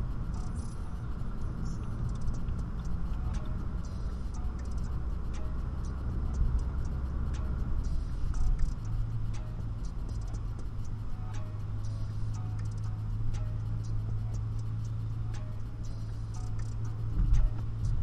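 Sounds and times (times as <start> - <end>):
car engine and exhaust droning: 0.0 - 18.0
faint ticks: 0.1 - 18.0.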